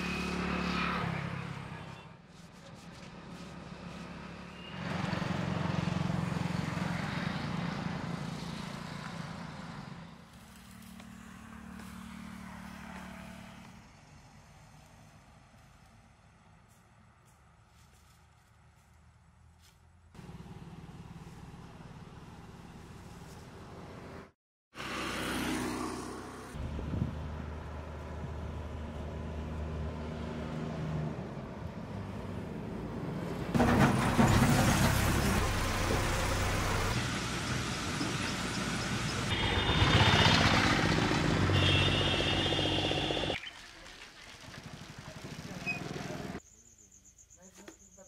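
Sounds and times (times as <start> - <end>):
dump trucks driving past: 3.1 - 17.2, 20.2 - 46.4.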